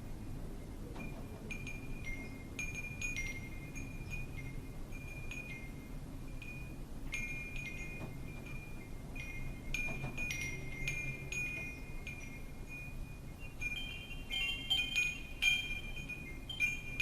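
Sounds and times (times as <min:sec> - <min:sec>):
low wind rumble: 0:00.0 - 0:17.0
wind chimes ringing: 0:00.0 - 0:17.0.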